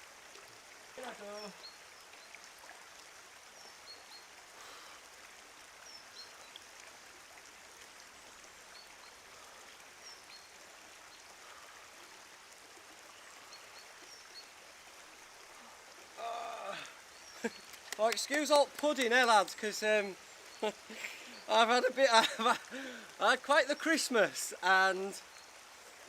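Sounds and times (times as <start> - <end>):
flowing water hiss: 0.0 - 26.0.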